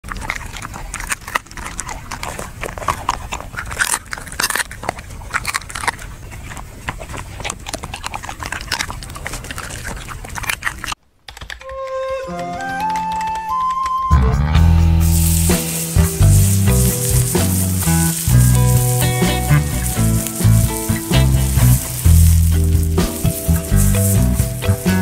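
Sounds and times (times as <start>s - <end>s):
dog chewing and crunching: 0.0s - 11.5s, 15.0s - 25.0s.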